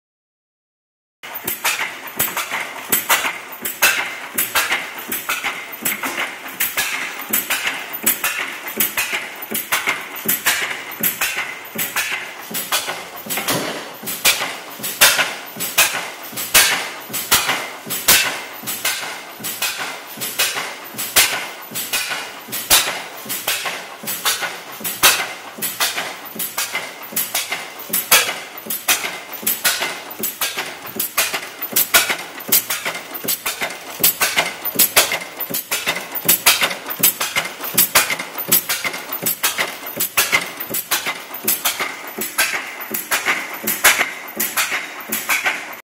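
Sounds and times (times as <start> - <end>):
stationary engine clacking: 1.2 - 45.8.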